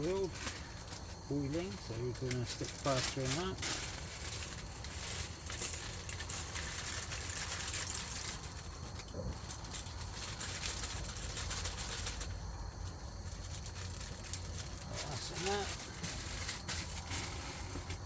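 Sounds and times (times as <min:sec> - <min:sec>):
gas stove hissing and roaring: 0:00.0 - 0:18.0.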